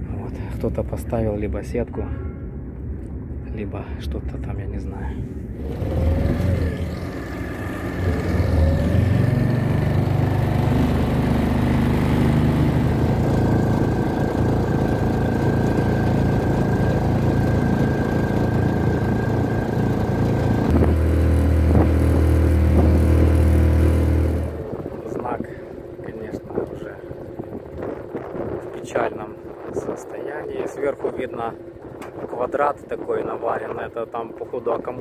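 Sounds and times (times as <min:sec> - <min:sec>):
outboard motor running: 0:05.5 - 0:35.0.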